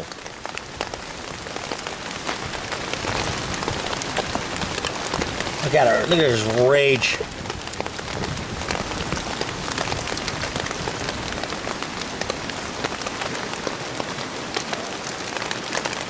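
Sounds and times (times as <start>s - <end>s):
heavy rain on a poncho: 0.0s - 16.0s.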